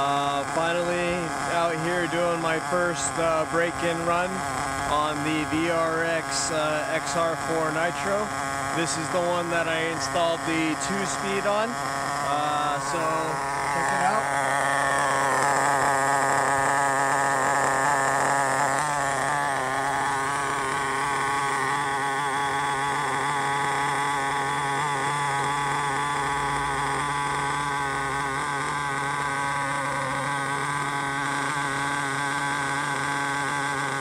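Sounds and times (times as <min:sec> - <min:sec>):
model car engine idling: 0:00.0 - 0:34.0.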